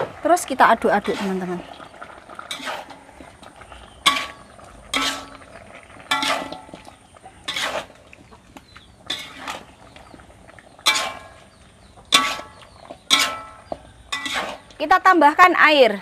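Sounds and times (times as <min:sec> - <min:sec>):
metal spatula scraping wok: 0:00.8 - 0:15.0.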